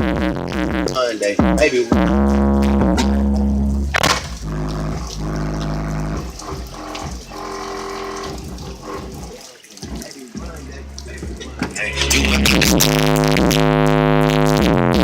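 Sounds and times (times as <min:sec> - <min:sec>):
subwoofer playing bass-heavy song: 0:00.0 - 0:09.4, 0:10.4 - 0:15.0.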